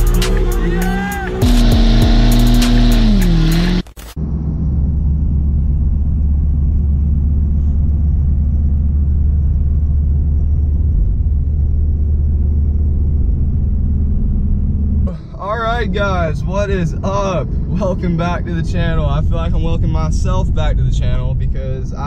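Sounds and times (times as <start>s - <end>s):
road and engine rumble in cab: 0.0s - 22.0s.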